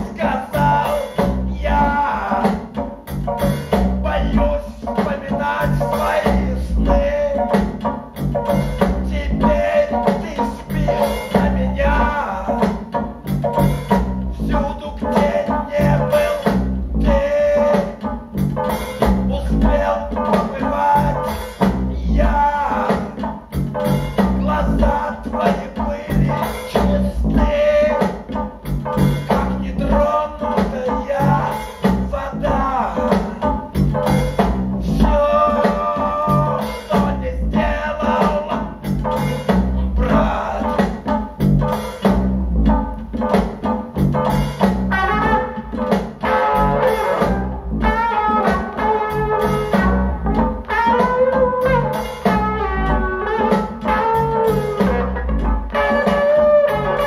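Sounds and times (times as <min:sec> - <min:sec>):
rock song with singing: 0:00.0 - 0:57.0.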